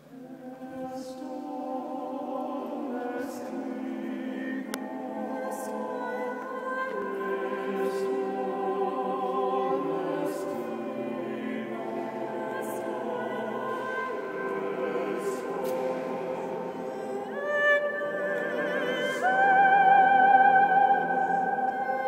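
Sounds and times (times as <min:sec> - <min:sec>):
choir singing a cappella: 0:00.0 - 0:22.0.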